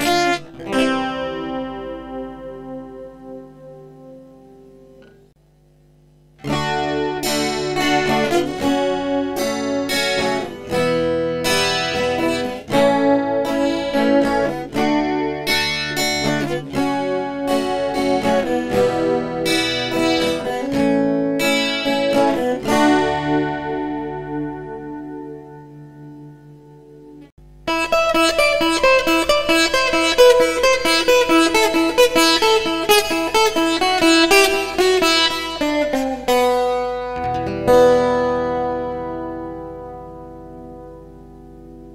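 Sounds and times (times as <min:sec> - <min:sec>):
guitar strumming chords: 0:00.0 - 0:41.9.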